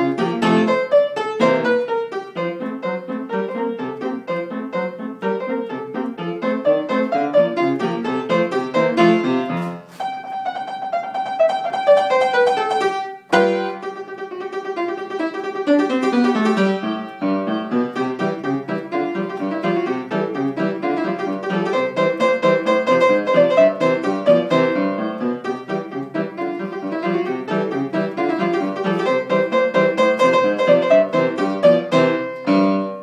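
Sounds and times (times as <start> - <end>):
upright piano playing ragtime: 0.0 - 33.0.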